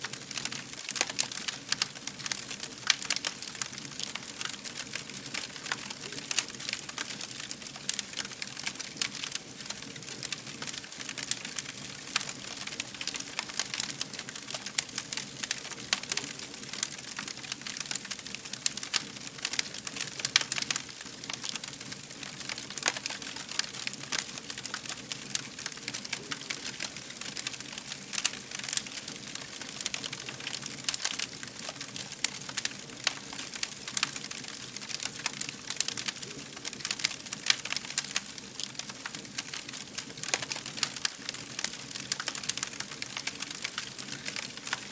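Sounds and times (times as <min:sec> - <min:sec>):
fire crackling: 0:00.0 - 0:44.9.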